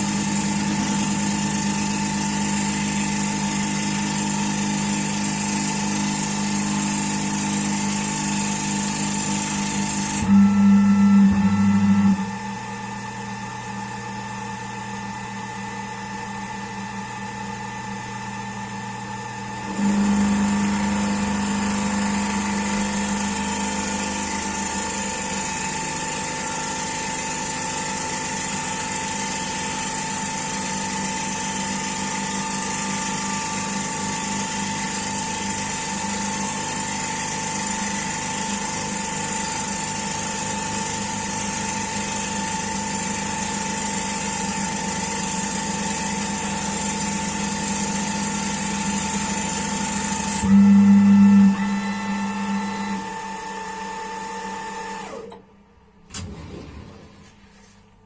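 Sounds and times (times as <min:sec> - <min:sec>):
high machine whine: 0:00.0 - 0:57.4
milling machine humming: 0:00.0 - 0:58.0.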